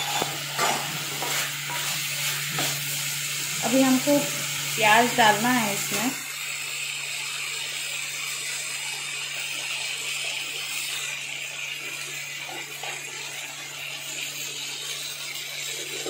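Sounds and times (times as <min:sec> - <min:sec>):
chicken and onions sizzling: 0:00.0 - 0:16.0.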